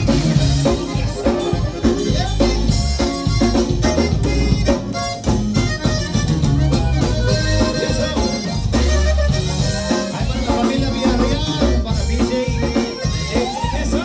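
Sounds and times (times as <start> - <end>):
loud accordion dance music: 0.0 - 14.0.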